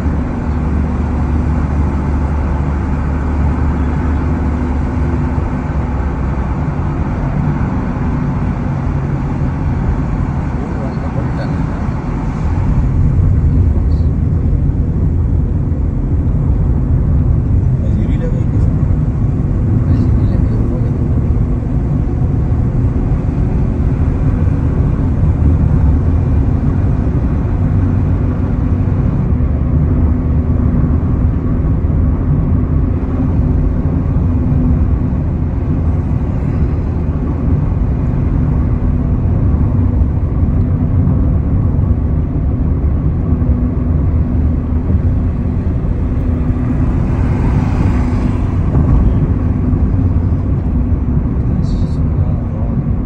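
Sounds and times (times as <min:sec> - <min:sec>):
faint car engine hum: 0:00.0 - 0:53.0
tyre and road noise: 0:00.0 - 0:53.0.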